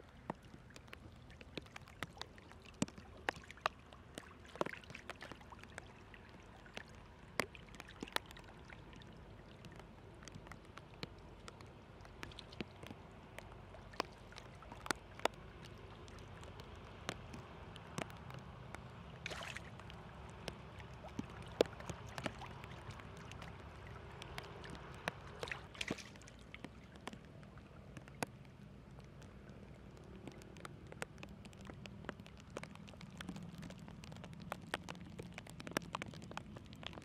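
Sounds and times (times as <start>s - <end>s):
small sharp splashes: 0.0s - 37.0s
water flowing down a channel: 0.0s - 37.0s.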